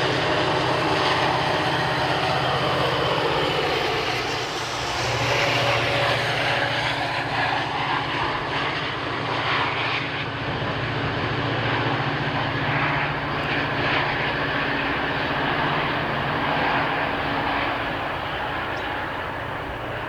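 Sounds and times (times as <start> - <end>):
drone propellers whirring: 0.0 - 20.0.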